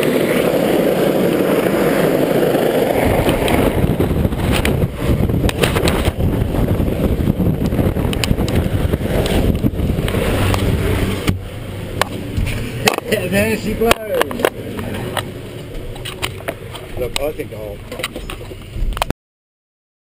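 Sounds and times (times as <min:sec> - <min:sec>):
helicopter rotor downwash wind: 0:00.0 - 0:19.1
low engine rumble: 0:00.0 - 0:19.1.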